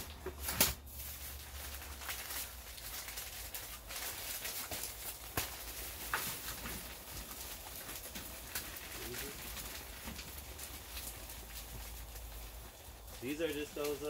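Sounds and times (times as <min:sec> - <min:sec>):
plastic bag crackling: 0:00.0 - 0:14.0
soil pouring and rustling: 0:00.0 - 0:14.0.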